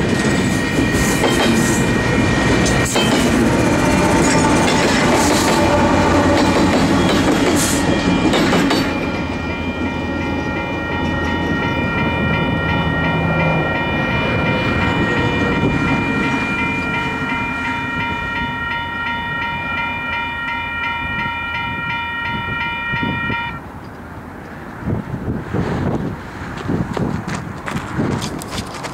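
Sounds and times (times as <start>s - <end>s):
crossing warning bell ringing: 0.0s - 24.0s
low rumble of freight train: 0.0s - 28.9s.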